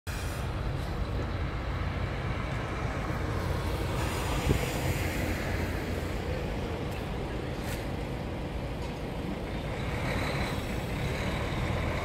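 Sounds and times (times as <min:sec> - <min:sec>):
diesel truck engine idling: 0:00.1 - 0:12.0.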